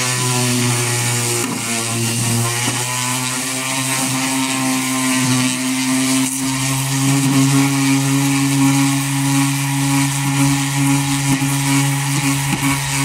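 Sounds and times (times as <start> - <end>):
sander motor hum: 0.0 - 13.0.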